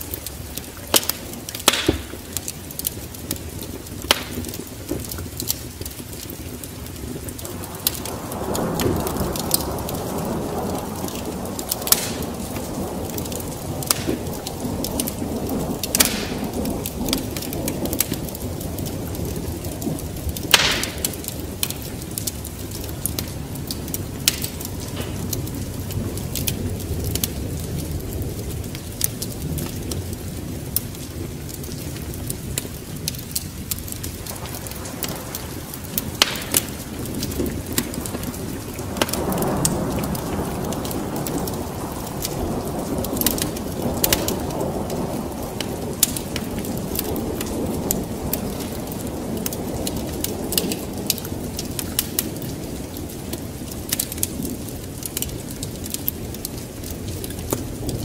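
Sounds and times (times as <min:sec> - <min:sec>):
steady rain: 0:00.0 - 0:58.0
thunder rumble: 0:00.0 - 0:58.0
wood fire crackling and popping: 0:00.0 - 0:58.0.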